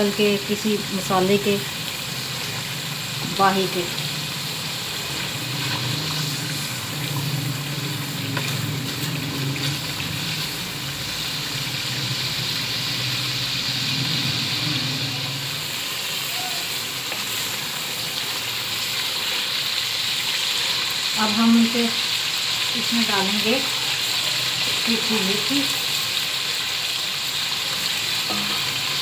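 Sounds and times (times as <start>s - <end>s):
gravy sizzling and bubbling: 0.0s - 29.0s.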